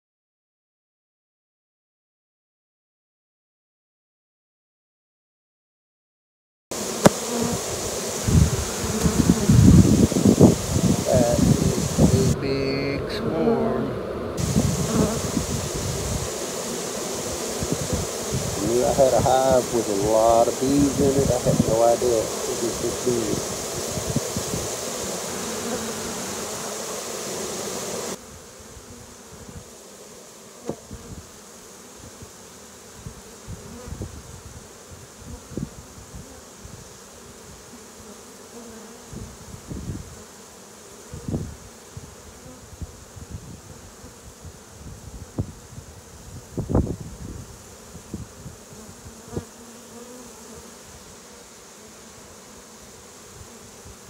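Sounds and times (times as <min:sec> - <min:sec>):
bee swarm buzzing: 0:06.7 - 0:54.0.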